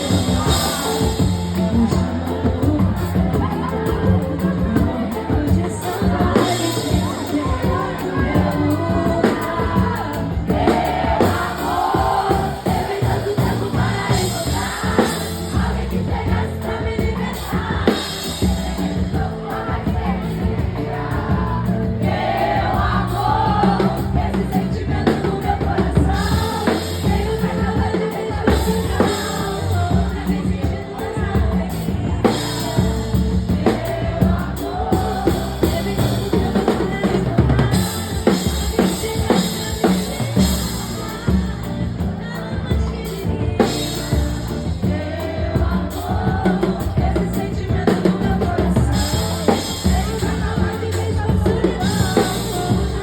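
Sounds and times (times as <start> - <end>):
drum kit and percussion: 0.0 - 53.0
person singing: 0.0 - 53.0.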